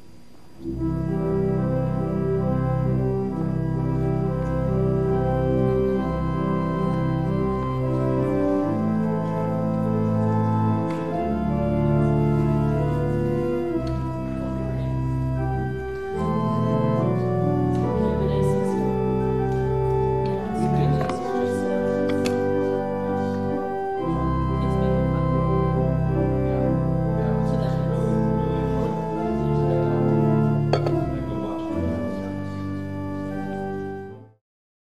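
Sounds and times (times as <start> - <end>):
organ chords: 0.0 - 34.4.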